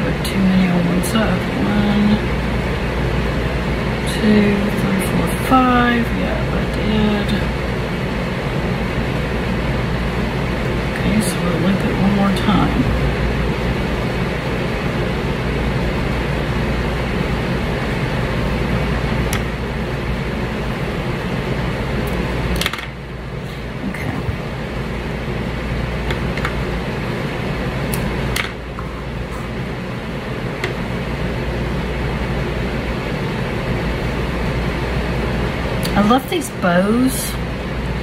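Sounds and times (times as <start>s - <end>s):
room fan whirring: 0.0s - 38.0s.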